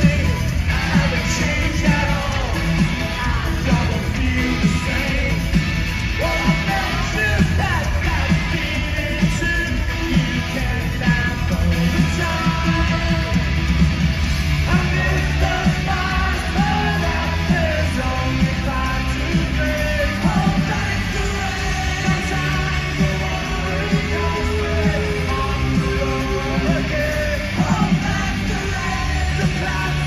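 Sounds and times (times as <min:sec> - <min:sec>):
live pop rock band: 0:00.0 - 0:30.0
man singing lead vocals: 0:00.0 - 0:30.0.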